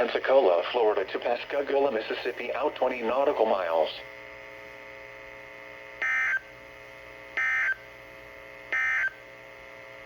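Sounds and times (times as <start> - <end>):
steady radio hum: 0.0 - 10.0.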